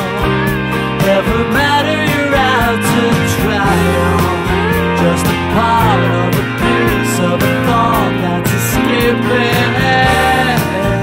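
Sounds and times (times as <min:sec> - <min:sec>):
person singing: 0:00.0 - 0:11.0
rock song: 0:00.0 - 0:11.0.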